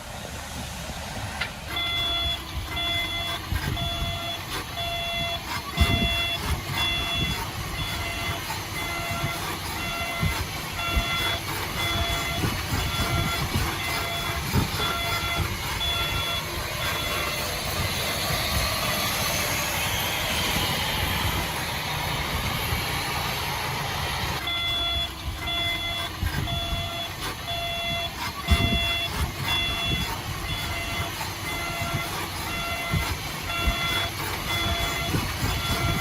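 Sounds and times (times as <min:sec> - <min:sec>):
heavy machinery rumbling: 0:00.0 - 0:36.0
reversing alarm beeping: 0:01.7 - 0:21.4, 0:24.4 - 0:36.0.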